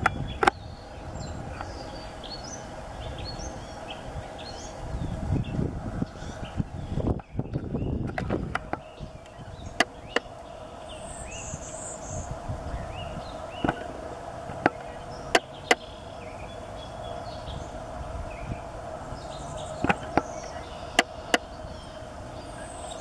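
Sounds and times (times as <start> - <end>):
buzzy warbler song: 0.0 - 23.0
faint birds chirping: 0.0 - 23.0
steady hum: 0.0 - 23.0.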